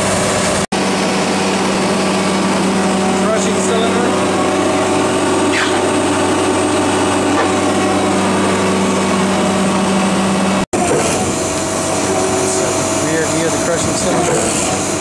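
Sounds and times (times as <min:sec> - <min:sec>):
diesel engine and hydraulics droning: 0:00.0 - 0:15.0.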